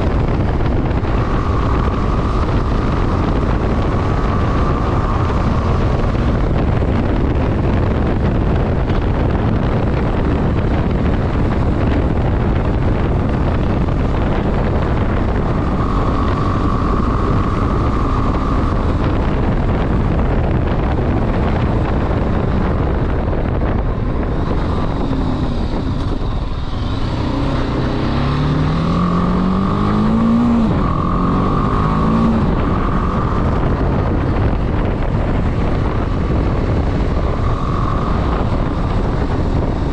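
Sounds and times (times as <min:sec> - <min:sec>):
motorcycle engine at speed: 0:00.0 - 0:39.9
wind noise on microphone: 0:00.0 - 0:39.9.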